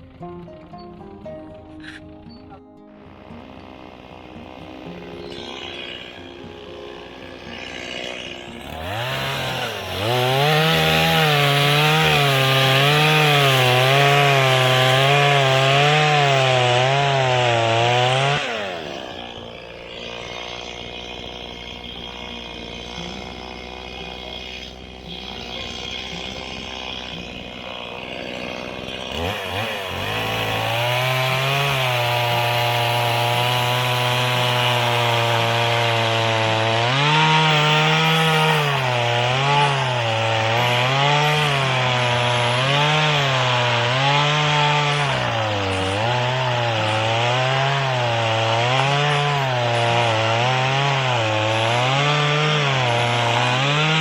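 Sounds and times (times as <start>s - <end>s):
small petrol engine revving: 3.0s - 54.0s.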